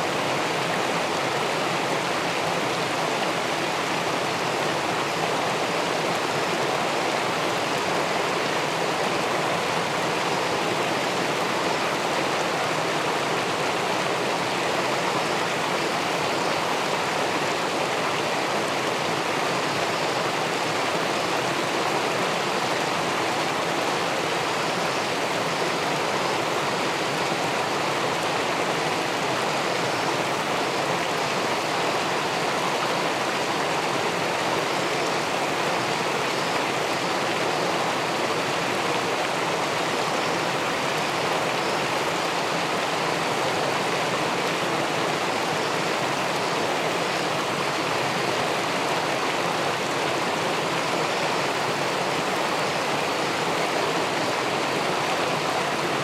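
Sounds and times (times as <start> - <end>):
river water rushing underwater: 0.0 - 56.0.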